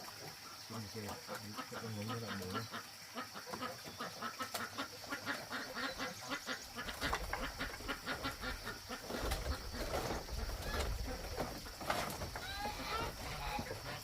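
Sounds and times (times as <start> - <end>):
ducks quacking: 1.1 - 14.0.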